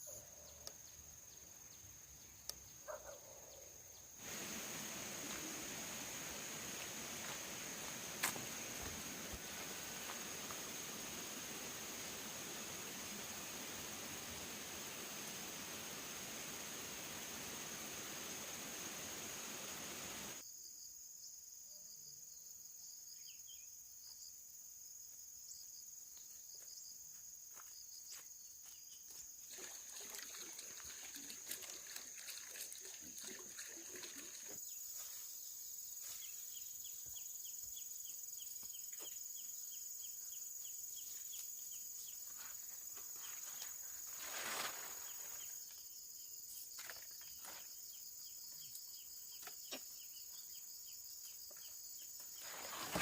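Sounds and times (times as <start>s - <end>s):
insects buzzing: 0.0s - 20.6s, 25.5s - 53.0s.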